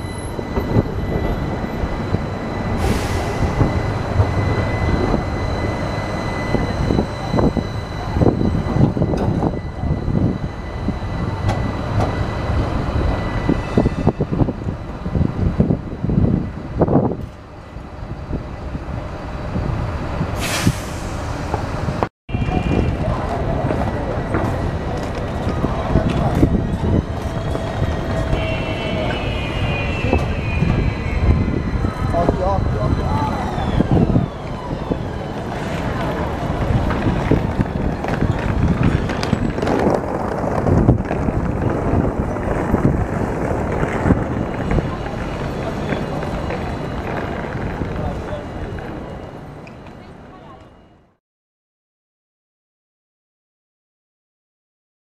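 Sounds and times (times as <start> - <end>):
wind buffeting microphone: 0.0 - 50.3
city traffic: 0.0 - 51.2
tram rumbling along track: 0.0 - 51.2.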